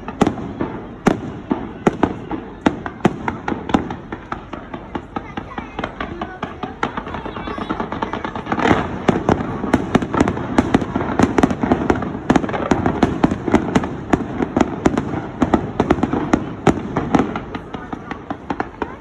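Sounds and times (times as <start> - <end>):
fireworks cracks and bangs: 0.0 - 19.0.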